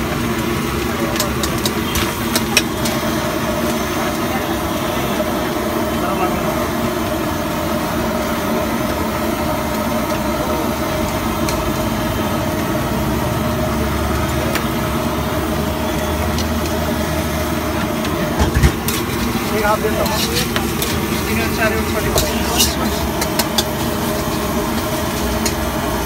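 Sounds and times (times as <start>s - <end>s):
gas burner roaring: 0.0s - 26.0s.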